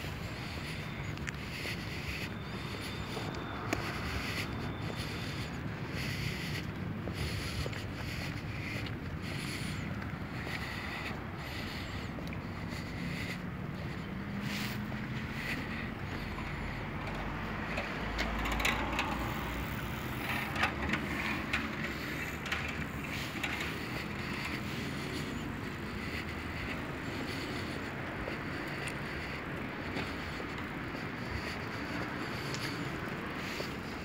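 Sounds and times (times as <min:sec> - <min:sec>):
outdoor background noise: 0:00.0 - 0:34.0.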